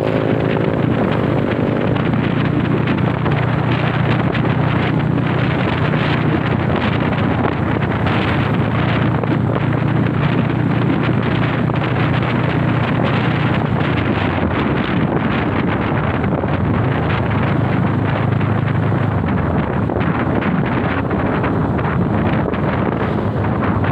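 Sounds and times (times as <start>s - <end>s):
motorcycle engine running: 0.0s - 23.9s
wind noise on microphone: 0.0s - 23.9s.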